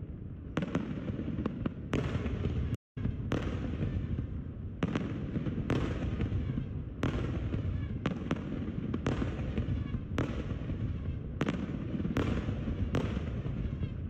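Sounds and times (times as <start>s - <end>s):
fireworks bursting with sharp bangs: 0.0s - 14.0s
low rumble of fireworks: 0.0s - 14.0s.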